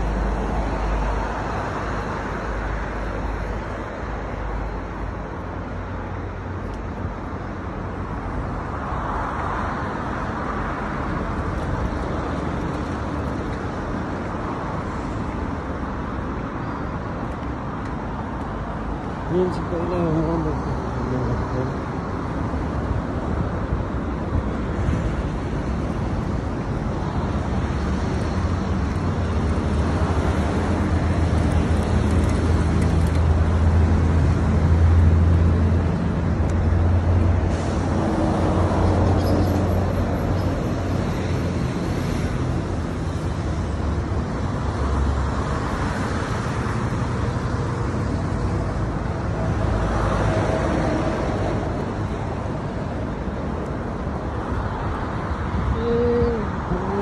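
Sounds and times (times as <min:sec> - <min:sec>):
road traffic rumbling: 0:00.0 - 0:57.0.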